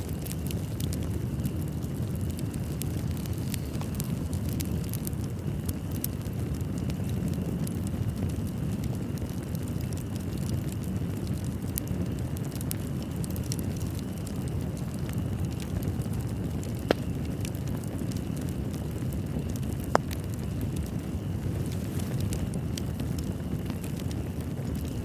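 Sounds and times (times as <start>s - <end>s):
fire burning rumble: 0.0s - 25.0s
fire crackling: 0.0s - 25.0s
fire popping: 0.0s - 25.0s.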